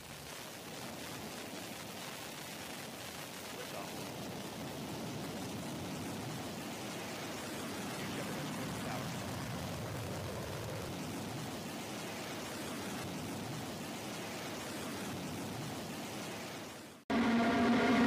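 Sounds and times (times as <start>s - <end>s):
rocket engine exhaust roar: 0.2s - 16.5s, 17.1s - 18.0s.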